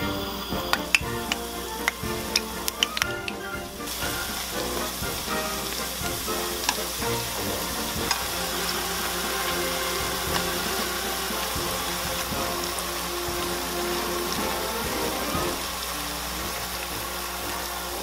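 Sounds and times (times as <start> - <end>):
food sizzling in oil: 0.0 - 18.0
oil popping and crackling: 0.3 - 18.0.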